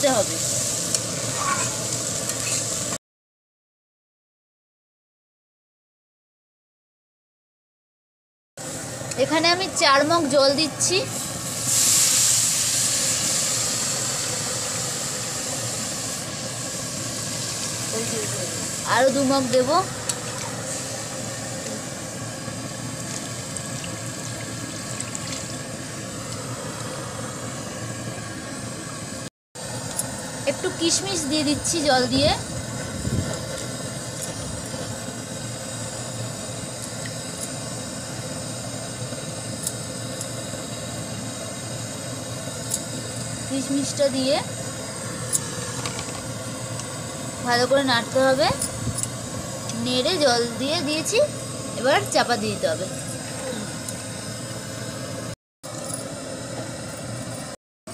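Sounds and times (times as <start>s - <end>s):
water hissing in hot oil: 0.0s - 3.0s, 8.6s - 55.3s.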